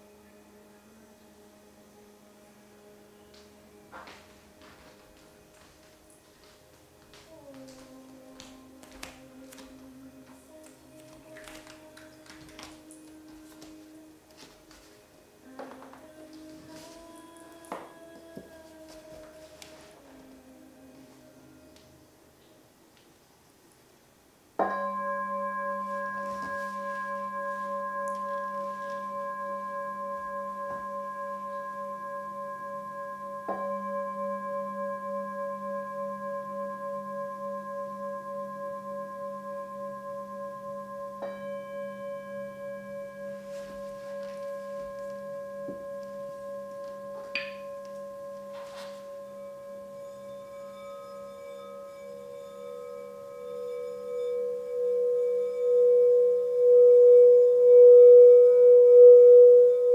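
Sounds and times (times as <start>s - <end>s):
singing bowl ringing: 7.3s - 22.0s, 24.6s - 59.9s.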